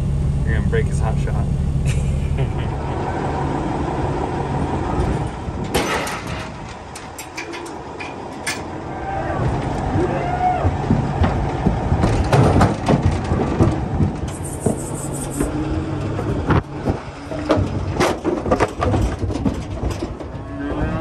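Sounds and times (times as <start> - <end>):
truck engine idling: 0.0 - 20.8
cattle banging in trailer: 2.7 - 21.0.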